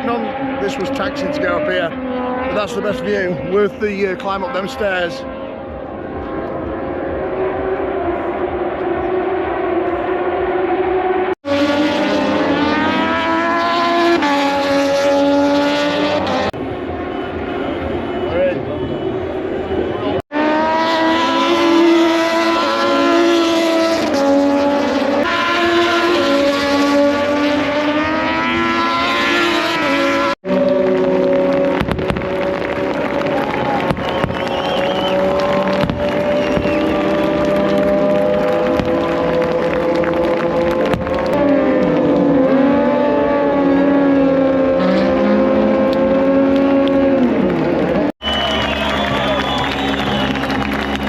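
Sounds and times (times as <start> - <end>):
racing motorcycles at high revs: 0.0 - 16.6, 20.2 - 48.1.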